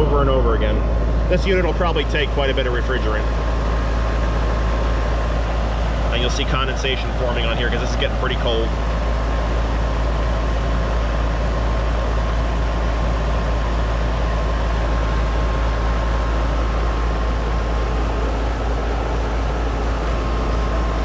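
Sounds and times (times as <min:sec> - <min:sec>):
condensing unit deep hum: 0:00.0 - 0:21.0.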